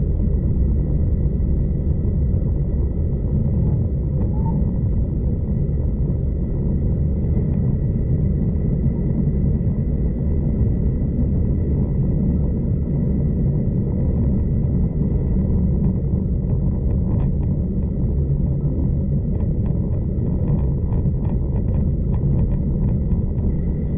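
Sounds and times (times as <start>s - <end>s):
train rumbling heard on board: 0.0s - 23.9s.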